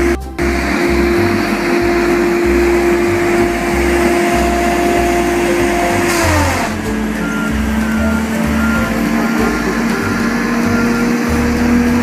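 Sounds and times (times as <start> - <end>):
saw engine whining: 0.0 - 12.0.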